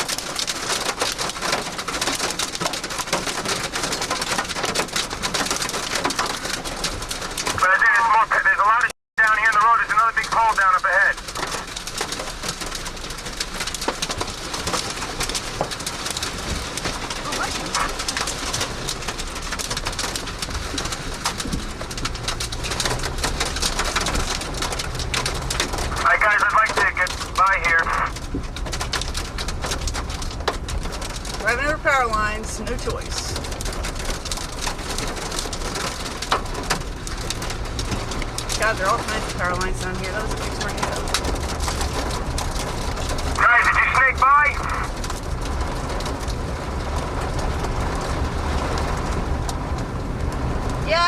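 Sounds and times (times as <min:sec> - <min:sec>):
hail pelting a car roof: 0:00.0 - 0:51.0.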